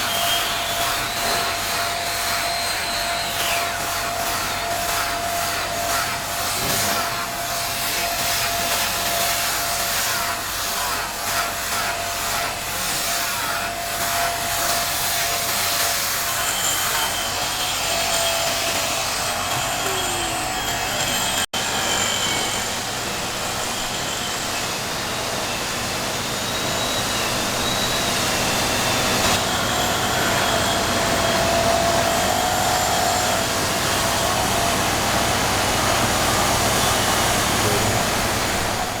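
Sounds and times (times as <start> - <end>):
power tool running: 0.0 - 39.0.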